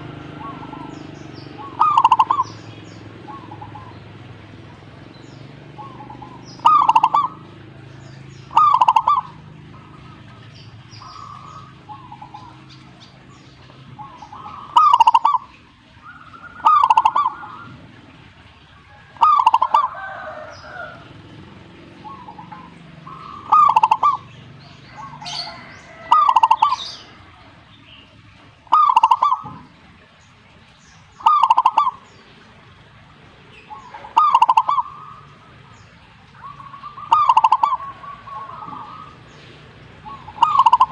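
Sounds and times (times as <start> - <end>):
dove cooing: 0.0 - 30.2, 31.1 - 40.9.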